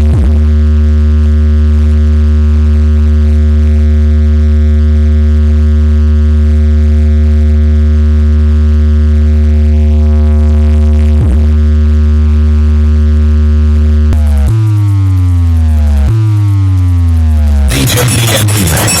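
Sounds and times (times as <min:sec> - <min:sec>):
loud low bass drone: 0:00.0 - 0:19.0.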